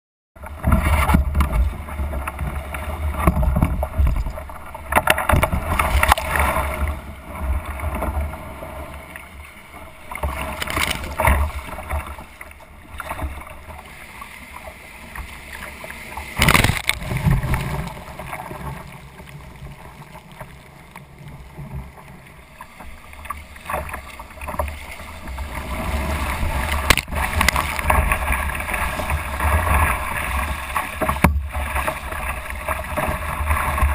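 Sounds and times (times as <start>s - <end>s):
water splashing against kayak: 0.4s - 33.9s.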